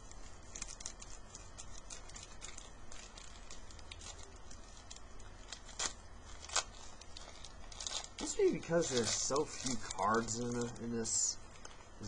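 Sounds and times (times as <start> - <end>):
steady low hum: 0.0 - 12.0
wrapper crinkling: 0.0 - 12.0.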